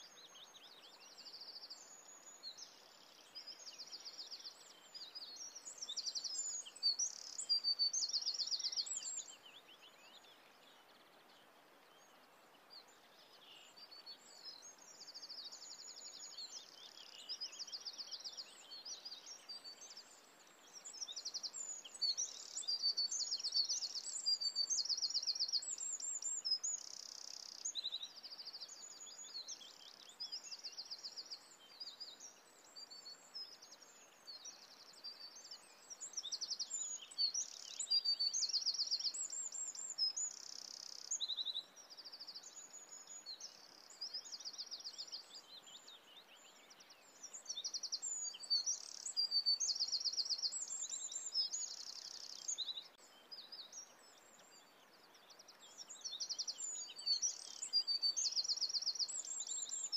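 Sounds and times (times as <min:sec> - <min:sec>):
faint steady hiss: 0:00.0 - 0:59.9
songbirds chirping and trilling: 0:00.0 - 0:59.9.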